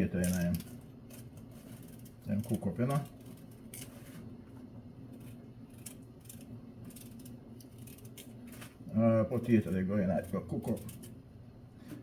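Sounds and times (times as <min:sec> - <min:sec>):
knife scraping potato: 0:00.0 - 0:12.0
low steady hum: 0:00.0 - 0:12.0.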